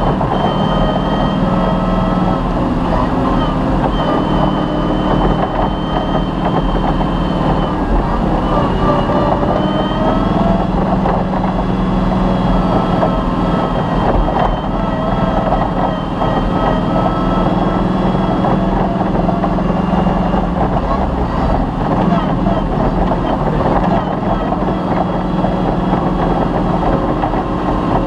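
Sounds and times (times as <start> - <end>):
rally car engine revving high: 0.0 - 28.0
rough driving noise: 0.0 - 28.0.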